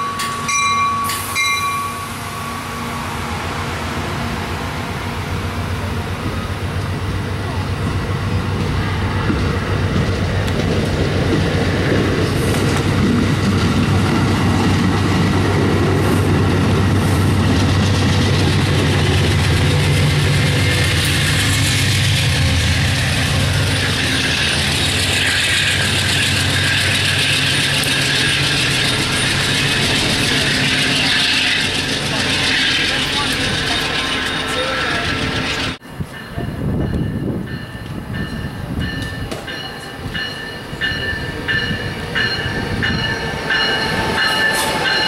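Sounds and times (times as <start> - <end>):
train wheels clicking on rail joints: 0.0 - 2.2, 7.8 - 45.0
locomotive low drone: 0.0 - 38.4.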